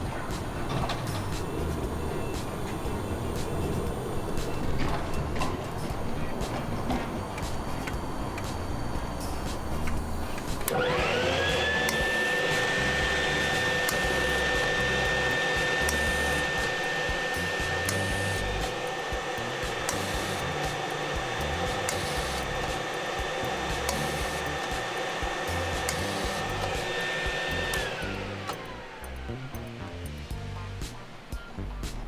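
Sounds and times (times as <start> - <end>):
blower whining: 0.0 - 32.0.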